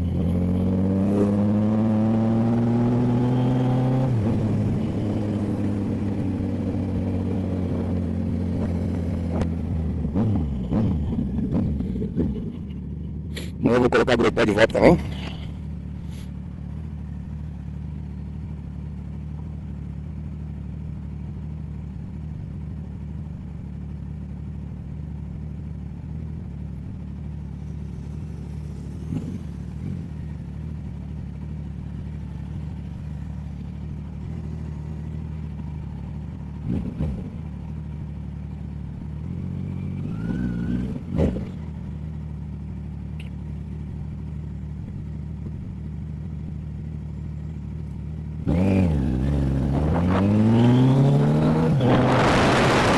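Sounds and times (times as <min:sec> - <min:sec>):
motorcycle idling: 0:04.2 - 0:40.1, 0:41.0 - 0:48.5.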